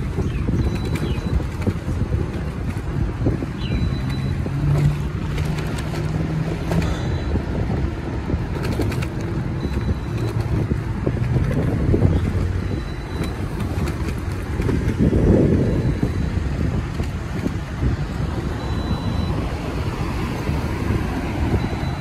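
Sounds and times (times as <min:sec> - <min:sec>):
vehicle rumble and road noise: 0:00.0 - 0:22.0
wind buffeting microphone: 0:00.0 - 0:22.0.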